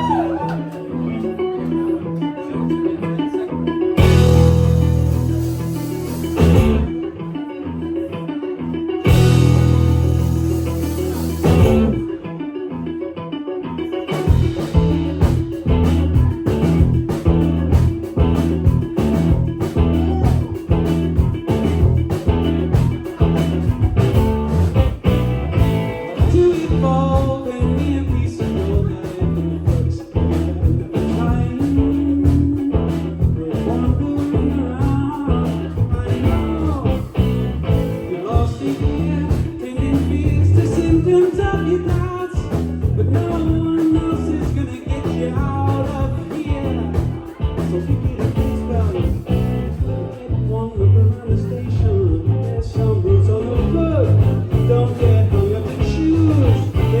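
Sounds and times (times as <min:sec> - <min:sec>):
person singing: 0:00.0 - 0:12.3, 0:13.9 - 0:24.8, 0:25.9 - 0:57.0
live rock band playing: 0:00.0 - 0:57.0.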